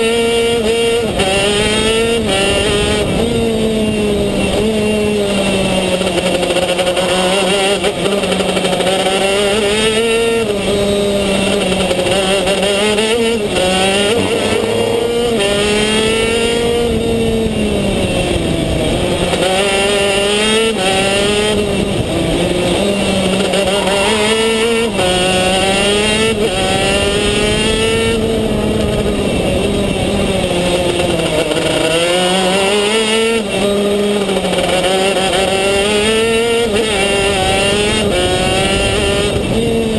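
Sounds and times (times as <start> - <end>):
kart engine accelerating: 0.0 - 39.9.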